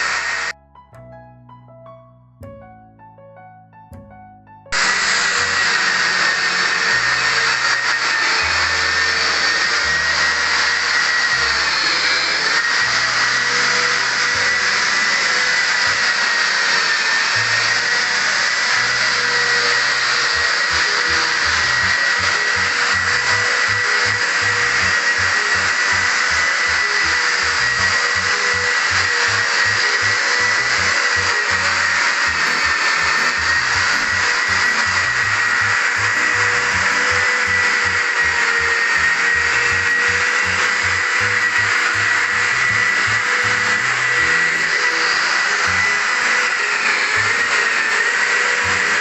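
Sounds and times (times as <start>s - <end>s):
drywall sander motor whine: 0.0s - 0.6s, 4.7s - 49.0s
background music with bass: 0.1s - 16.2s, 18.6s - 49.0s.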